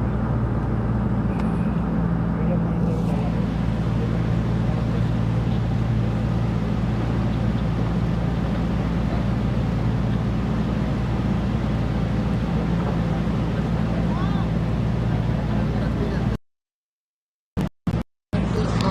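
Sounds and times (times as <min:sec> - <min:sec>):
boat engine droning: 0:00.0 - 0:16.4, 0:17.9 - 0:18.9.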